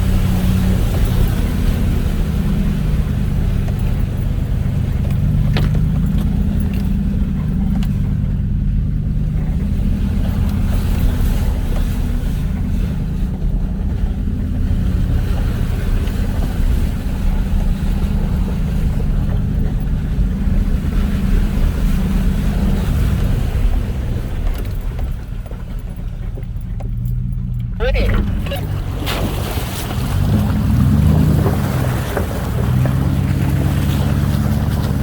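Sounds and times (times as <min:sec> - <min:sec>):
vehicle engine low rumble: 0:00.0 - 0:35.0.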